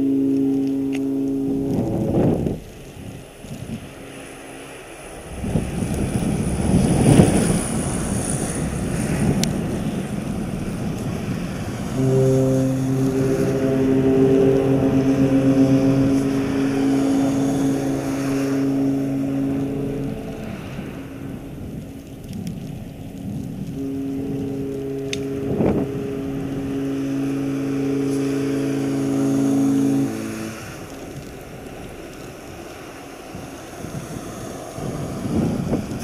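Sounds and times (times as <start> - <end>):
rushing noise: 0.0 - 36.0
ship horn blast: 0.0 - 36.0.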